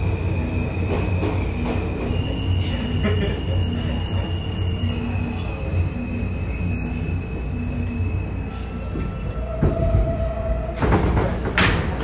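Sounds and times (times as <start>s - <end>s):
subway car rumble: 0.0s - 12.0s.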